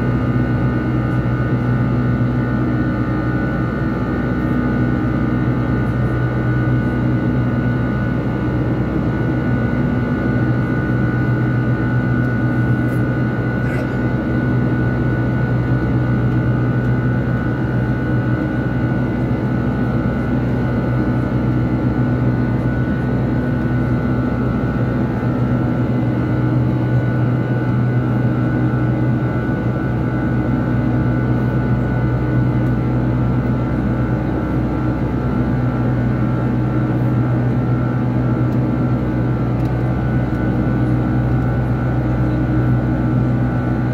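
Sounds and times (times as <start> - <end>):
jet engine cabin drone: 0.0 - 43.9.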